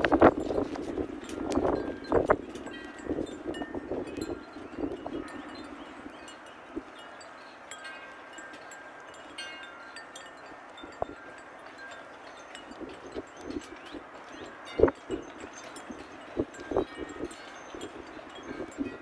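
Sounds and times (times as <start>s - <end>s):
light metallic chimes: 0.0s - 19.0s
soft wind noise: 0.0s - 19.0s.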